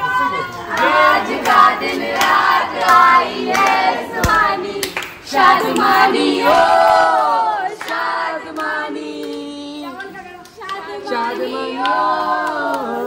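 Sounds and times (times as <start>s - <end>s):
women singing together: 0.0s - 13.0s
hands clapping: 0.6s - 13.0s.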